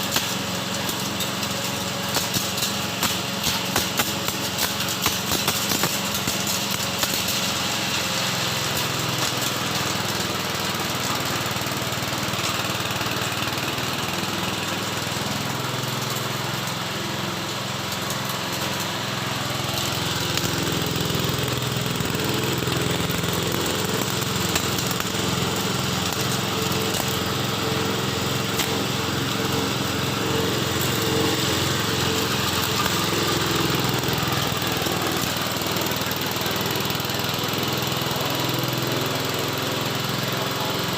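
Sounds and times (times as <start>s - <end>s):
forage chopper running: 0.0s - 40.9s.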